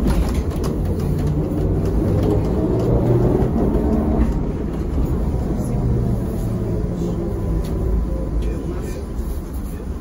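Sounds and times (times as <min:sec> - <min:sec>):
trolleybus cabin rumble: 0:00.0 - 0:10.0.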